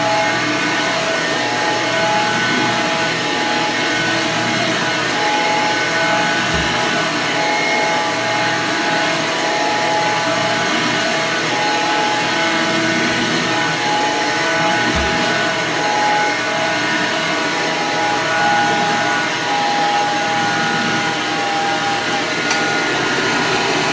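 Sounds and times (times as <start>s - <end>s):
vacuum cleaner motor running: 0.0s - 23.9s.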